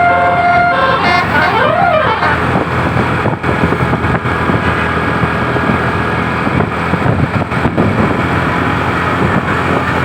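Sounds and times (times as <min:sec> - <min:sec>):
large vehicle engine droning: 0:00.0 - 0:10.0
road noise: 0:00.0 - 0:10.0.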